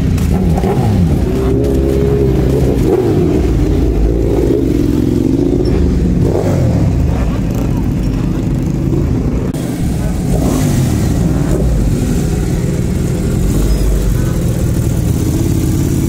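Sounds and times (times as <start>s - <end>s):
motorcycle engines revving: 0.0s - 16.0s
people talking: 0.6s - 15.9s.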